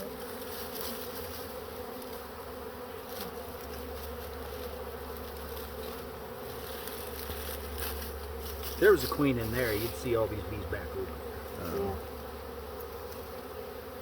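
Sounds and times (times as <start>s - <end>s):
swarm of bees buzzing: 0.0s - 14.0s.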